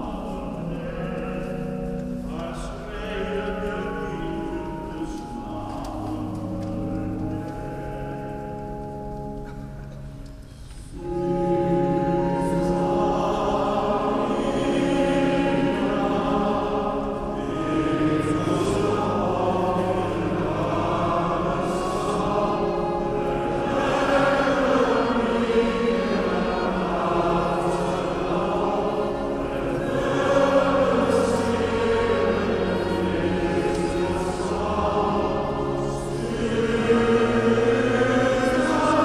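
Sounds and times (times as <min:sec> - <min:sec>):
choir singing: 0:00.0 - 0:09.4, 0:10.9 - 0:39.0.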